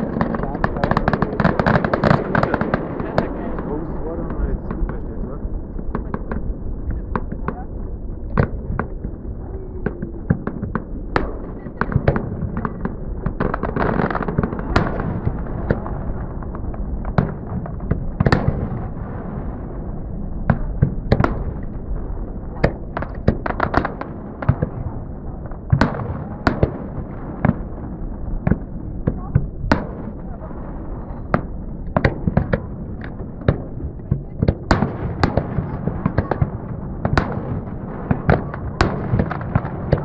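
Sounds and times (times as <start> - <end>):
fireworks bangs: 0.0 - 40.0.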